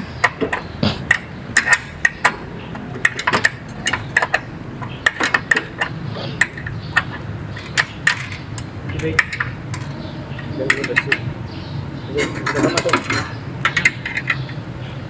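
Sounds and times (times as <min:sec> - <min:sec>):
metal hardware clinking: 0:00.2 - 0:11.3, 0:12.1 - 0:14.6.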